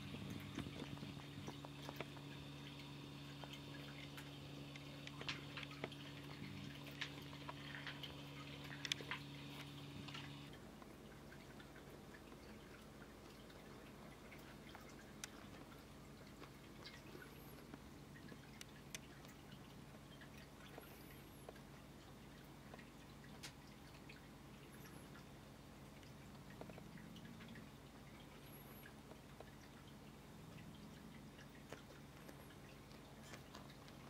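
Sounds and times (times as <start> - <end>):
faint low hum: 0.0 - 34.0
faint ticks and clicks: 0.0 - 34.0.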